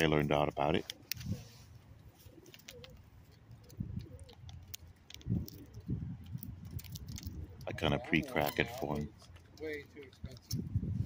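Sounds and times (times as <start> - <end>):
pigeons cooing: 0.0 - 9.6.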